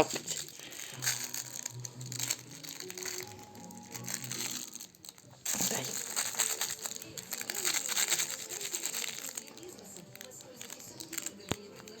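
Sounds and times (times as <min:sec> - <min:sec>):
crinkle toy rustling: 0:00.0 - 0:12.0.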